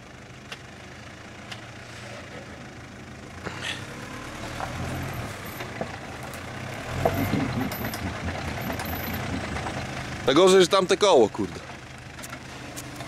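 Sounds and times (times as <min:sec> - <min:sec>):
car engine pulling under load: 0:00.0 - 0:13.0.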